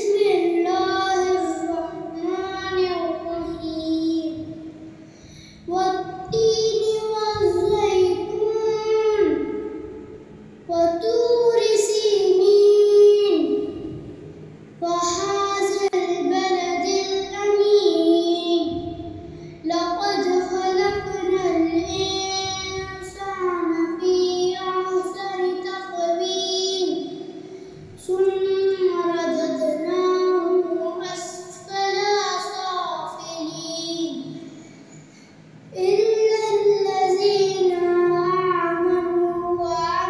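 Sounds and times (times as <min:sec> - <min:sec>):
boy chanting recitation: 0:00.0 - 0:10.1, 0:10.7 - 0:40.0.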